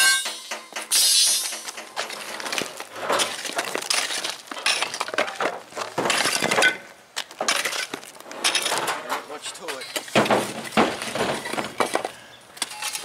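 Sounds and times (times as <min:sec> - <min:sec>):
concrete chunks clinking: 0:00.0 - 0:13.0.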